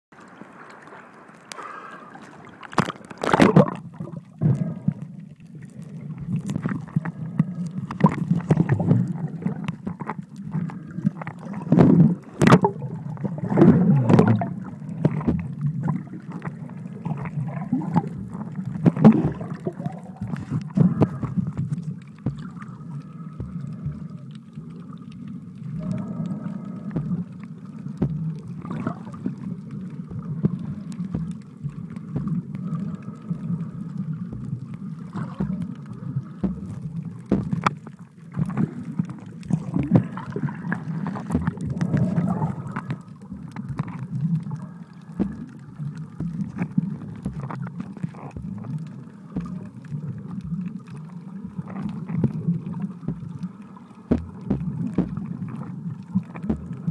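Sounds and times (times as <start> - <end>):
muffled underwater rumble: 0.2 - 56.9
clicks underwater: 1.4 - 56.9.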